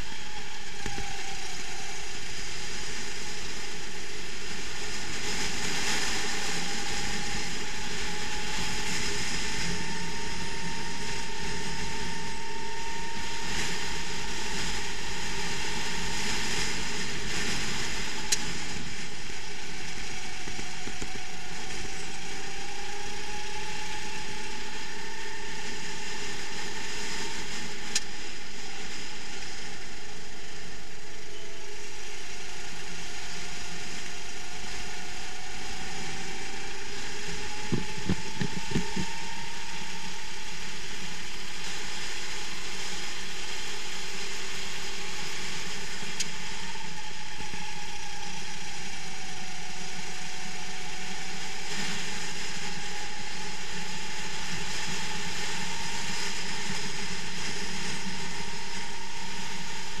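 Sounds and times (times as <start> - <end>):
kart engine droning: 0.0 - 60.0.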